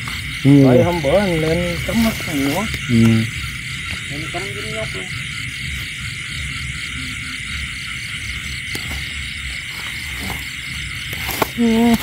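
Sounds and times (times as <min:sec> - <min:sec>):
crickets and insects shrilling: 0:00.0 - 0:12.0.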